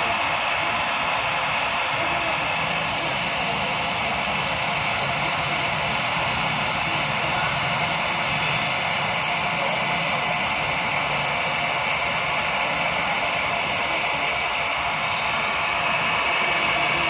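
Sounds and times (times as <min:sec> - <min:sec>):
hot air gun hissing: 0:00.0 - 0:17.0.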